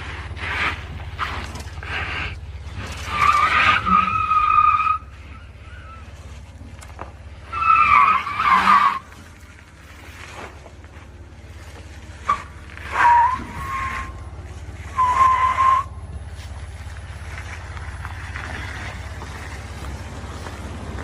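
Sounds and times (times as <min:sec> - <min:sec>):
truck tyres squealing: 0:00.0 - 0:21.0.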